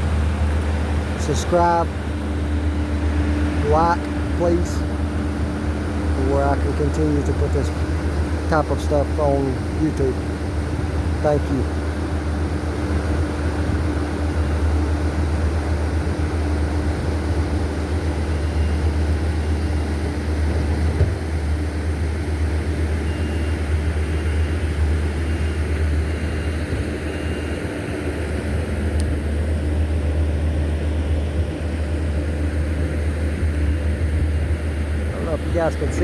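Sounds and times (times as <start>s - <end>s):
road noise: 0.0s - 36.0s
vehicle engine rumble: 0.0s - 36.0s.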